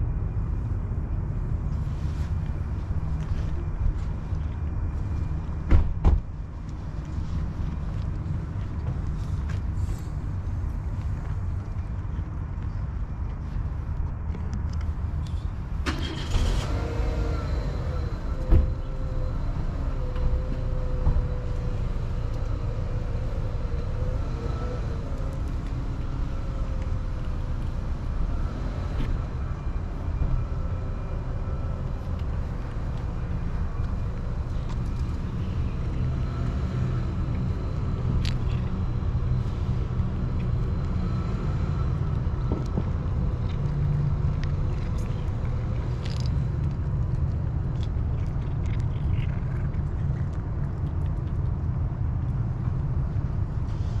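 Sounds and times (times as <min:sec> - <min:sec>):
road traffic rumble: 0:00.0 - 0:54.0
vehicle engine droning: 0:00.0 - 0:54.0.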